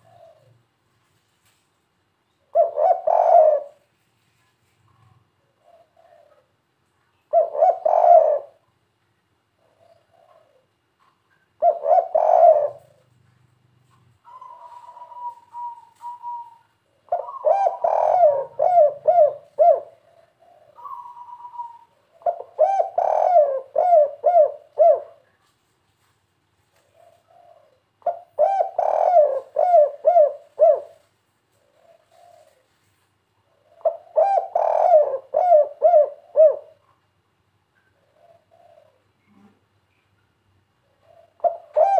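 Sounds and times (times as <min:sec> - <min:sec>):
dove cooing: 0:00.0 - 0:00.8, 0:02.4 - 0:03.9, 0:04.9 - 0:06.6, 0:07.2 - 0:08.7, 0:09.5 - 0:25.5, 0:26.8 - 0:37.0, 0:37.8 - 0:39.5, 0:40.8 - 0:41.9.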